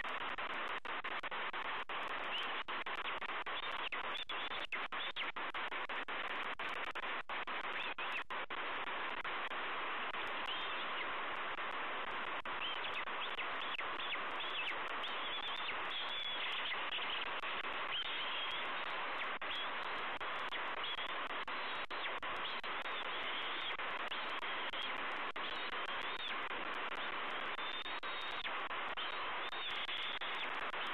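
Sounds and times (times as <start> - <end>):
steady hiss: 0.0 - 30.9.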